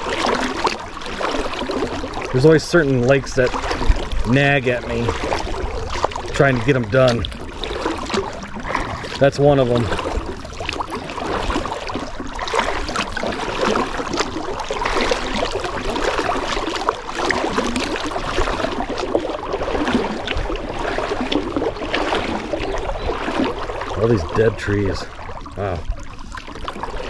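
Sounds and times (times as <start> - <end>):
paddle splashing water: 0.0 - 27.0
small splashes and drips: 0.0 - 27.0.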